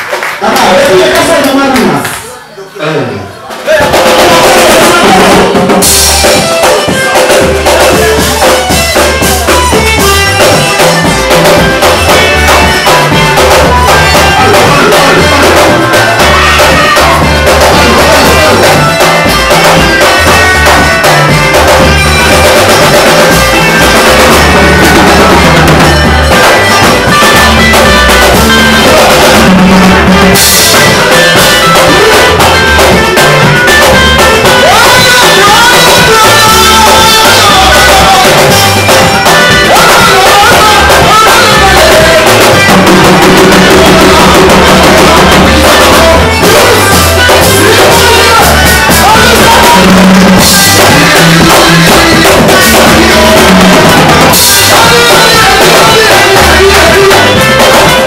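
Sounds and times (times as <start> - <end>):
live band dance music: 0.0 - 58.0
person singing: 3.0 - 58.0.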